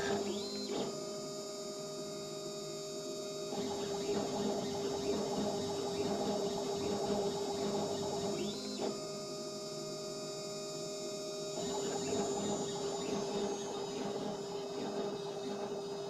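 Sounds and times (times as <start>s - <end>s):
milling machine whining hum: 0.0s - 16.0s.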